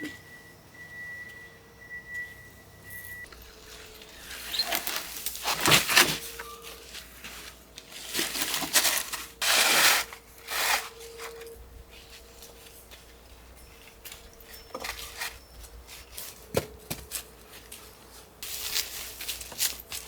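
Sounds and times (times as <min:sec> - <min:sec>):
rustling and crinkling: 0:03.2 - 0:20.0.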